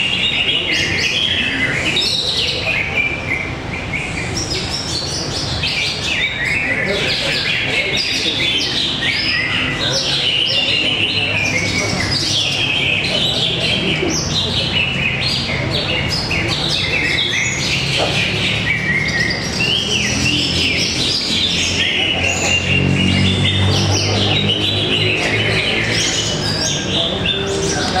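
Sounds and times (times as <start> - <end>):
birds singing whistled phrases: 0.0 - 28.0.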